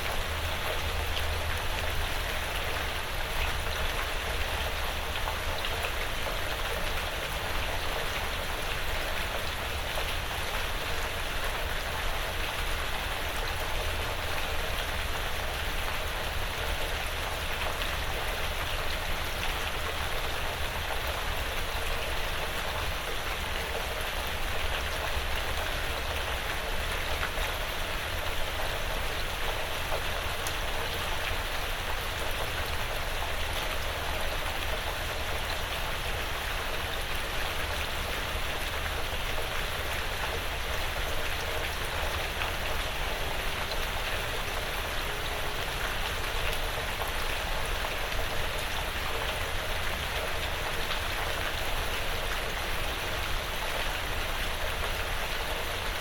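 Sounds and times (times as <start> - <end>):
light rain on a roof: 0.0 - 56.0.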